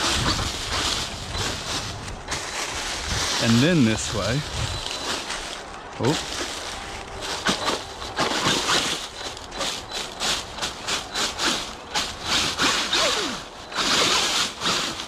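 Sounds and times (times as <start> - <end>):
tyres crunching over rocks: 0.0 - 12.6.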